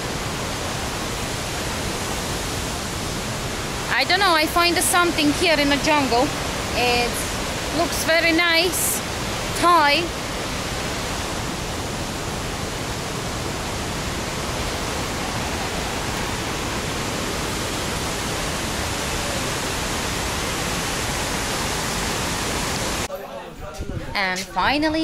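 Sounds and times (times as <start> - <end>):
running water: 0.0 - 23.1.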